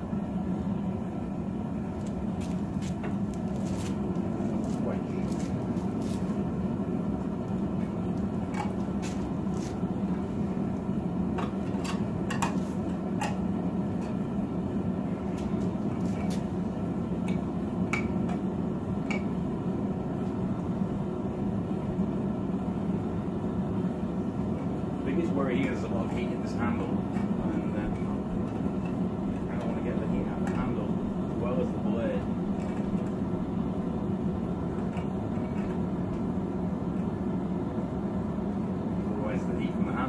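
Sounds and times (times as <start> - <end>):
forge burner rushing: 0.0 - 40.0.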